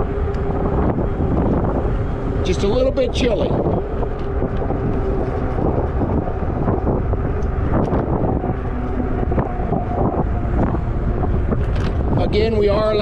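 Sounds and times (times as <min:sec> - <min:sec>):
constant hum: 0:00.0 - 0:13.0
wind buffeting microphone: 0:00.0 - 0:13.0.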